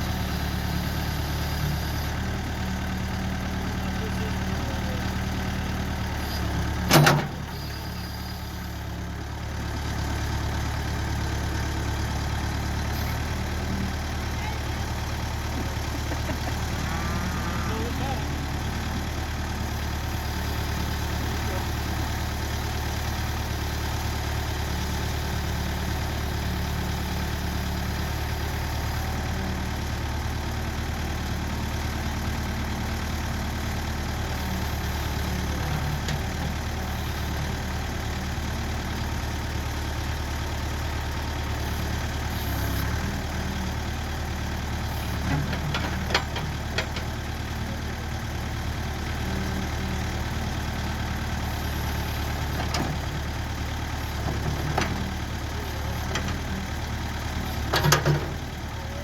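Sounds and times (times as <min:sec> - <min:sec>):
backhoe engine idling: 0:00.0 - 0:59.0.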